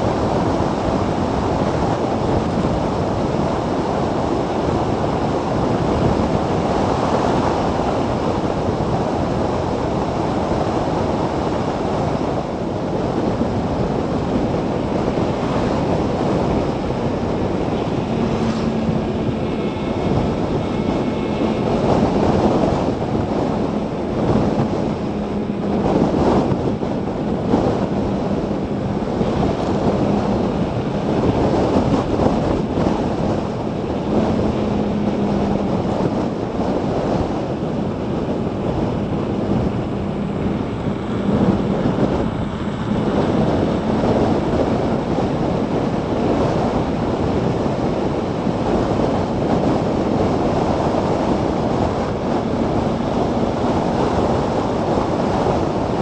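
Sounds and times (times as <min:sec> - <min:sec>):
steady low hum: 0:00.0 - 0:56.0
wind buffeting microphone: 0:00.0 - 0:56.0.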